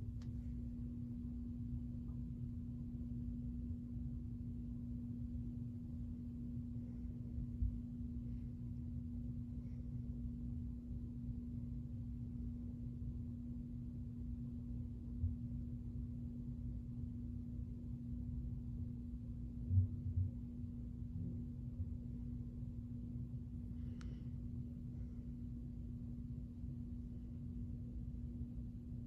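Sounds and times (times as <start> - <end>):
ceiling fan humming: 0.0 - 29.0.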